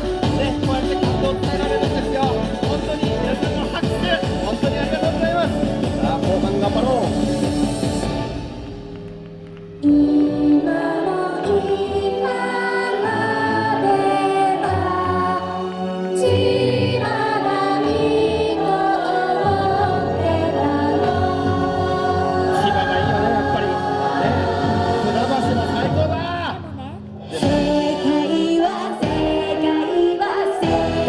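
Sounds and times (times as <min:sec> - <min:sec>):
dance music with singing: 0:00.0 - 0:08.9, 0:09.8 - 0:31.0.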